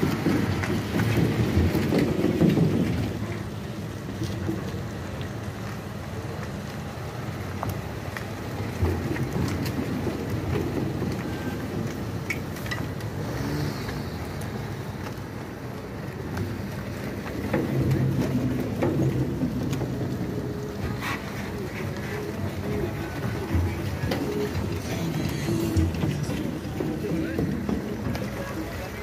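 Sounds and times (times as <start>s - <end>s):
cars driving slowly past: 0.0s - 29.0s.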